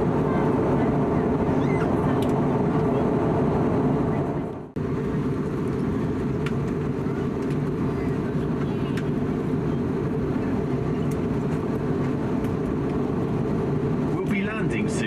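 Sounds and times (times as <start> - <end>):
aircraft cabin rumble: 0.0 - 15.0
faint passenger voices: 0.0 - 15.0.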